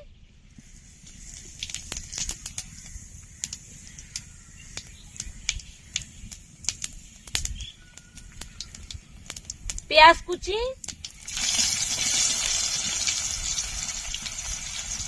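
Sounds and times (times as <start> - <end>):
oil sizzling: 0.6 - 15.0
seeds popping in hot oil: 0.6 - 15.0.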